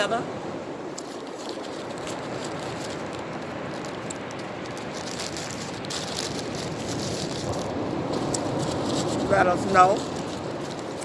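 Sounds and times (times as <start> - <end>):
ocean surf rushing: 0.0 - 11.0
faint crackles: 0.9 - 11.0.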